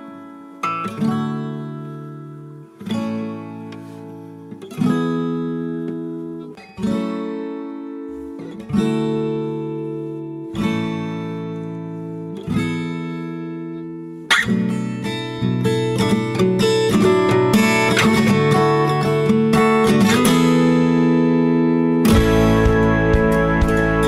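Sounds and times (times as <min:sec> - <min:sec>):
acoustic guitar chords strummed: 0:00.0 - 0:24.0.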